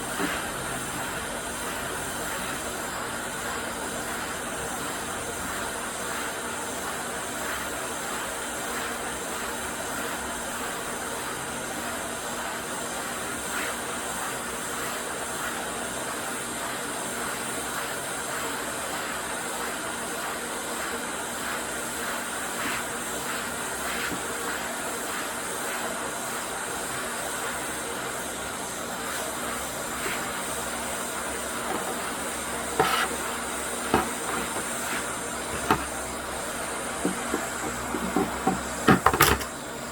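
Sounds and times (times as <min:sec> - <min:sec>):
hot air blower hissing: 0:00.0 - 0:39.9.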